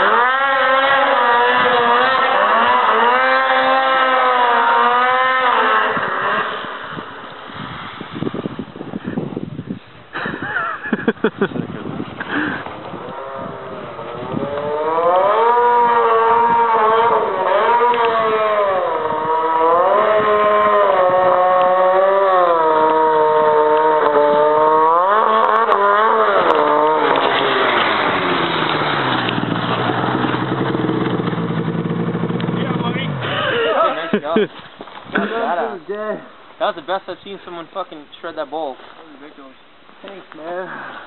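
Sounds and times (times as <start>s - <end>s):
distant snowmobile engine revving: 0.0s - 8.6s, 10.2s - 38.7s
snowmobile engine running low: 0.0s - 9.2s, 10.1s - 34.2s.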